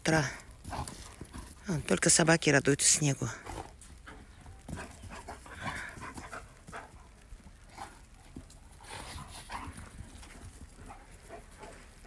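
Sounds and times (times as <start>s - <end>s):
dogs panting and snuffling: 0.0s - 12.0s.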